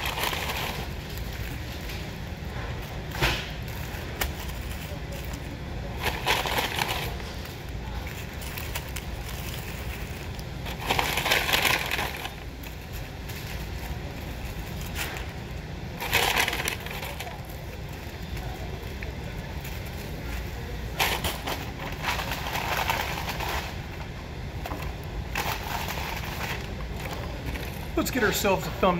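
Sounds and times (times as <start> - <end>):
paper wrappers crinkling: 0.0 - 28.9.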